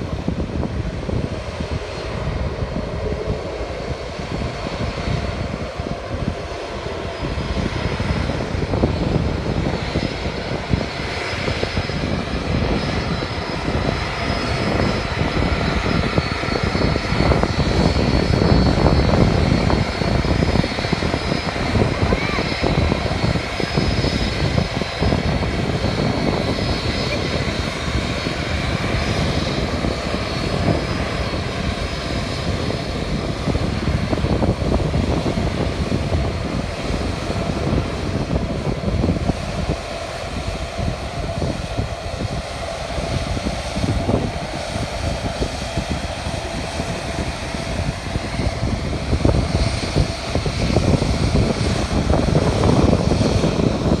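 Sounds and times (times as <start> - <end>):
airplane engine running: 0.0 - 54.0.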